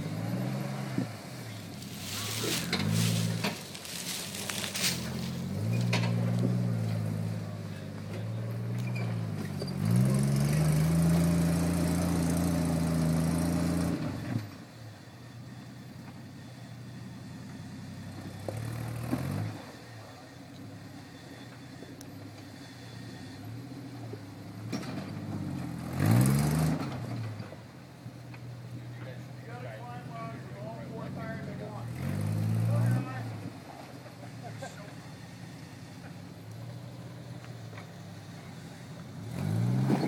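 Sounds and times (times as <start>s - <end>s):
jeep engine revving: 0.0s - 14.6s, 16.5s - 27.5s, 28.6s - 40.0s.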